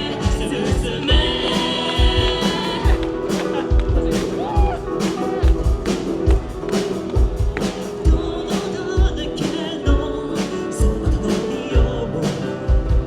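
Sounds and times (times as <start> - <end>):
drums beat: 0.0 - 13.0
live band playing: 0.0 - 13.0
person singing: 0.0 - 13.0.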